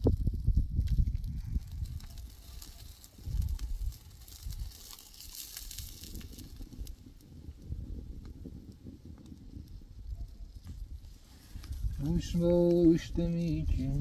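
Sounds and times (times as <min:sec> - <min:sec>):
coals crackling: 0:00.0 - 0:14.0
meat sizzling over charcoal: 0:00.0 - 0:14.0.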